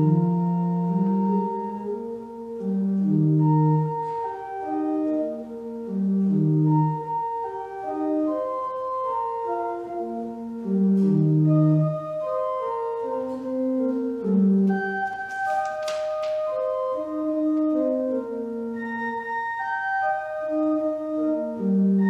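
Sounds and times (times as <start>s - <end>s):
church organ playing: 0.0s - 22.0s.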